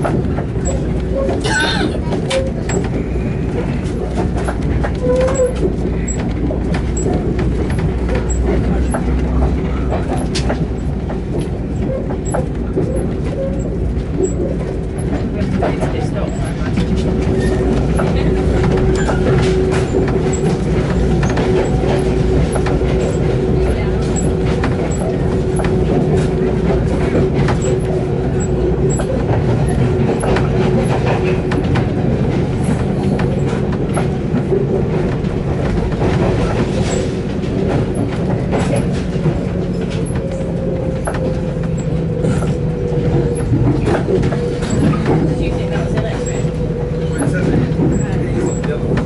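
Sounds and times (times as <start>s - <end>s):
steady train hum: 0.0s - 49.0s
train rumble: 0.0s - 49.0s
wheels clicking on track: 0.0s - 49.0s.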